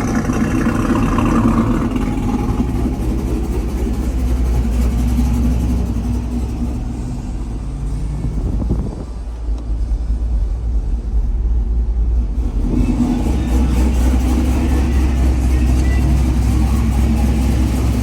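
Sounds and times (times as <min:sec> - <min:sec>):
pickup truck engine droning: 0:00.0 - 0:18.0.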